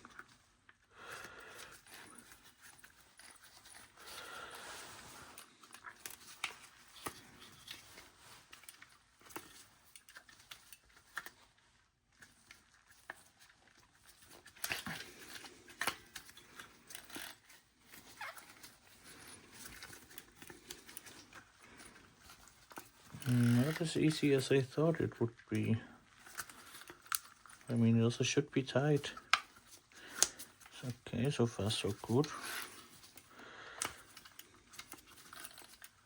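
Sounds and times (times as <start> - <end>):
clicks and scrapes of rubber: 0.0 - 24.5, 25.6 - 27.8, 29.0 - 36.0.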